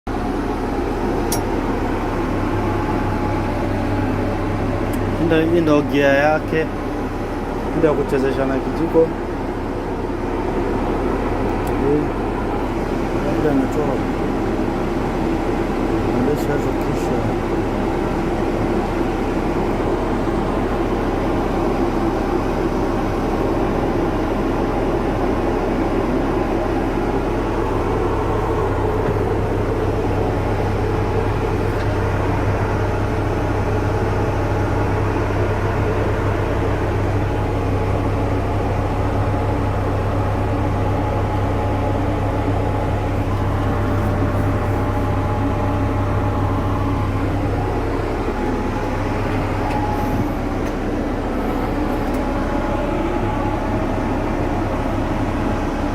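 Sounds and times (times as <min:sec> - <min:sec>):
deep steady hum: 0:00.1 - 0:55.9
diesel engine running: 0:00.1 - 0:55.9.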